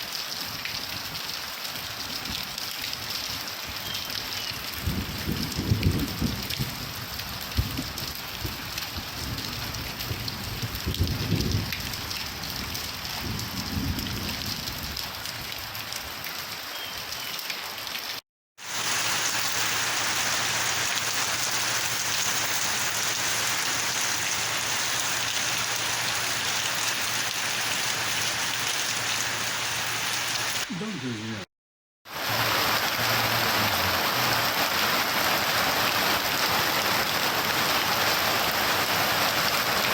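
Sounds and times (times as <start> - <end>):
steady rain pouring: 0.0 - 31.5, 32.1 - 39.9.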